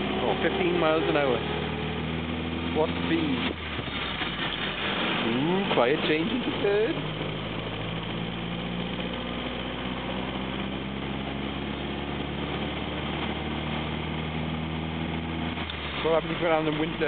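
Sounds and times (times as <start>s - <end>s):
car engine pulling steadily: 0.0s - 17.0s
road noise: 0.0s - 17.0s.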